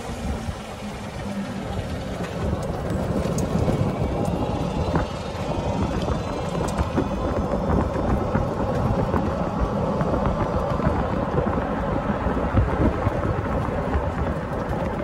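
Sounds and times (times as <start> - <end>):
golf cart rumble: 0.0 - 15.0
cart rattles and knocks: 1.0 - 15.0.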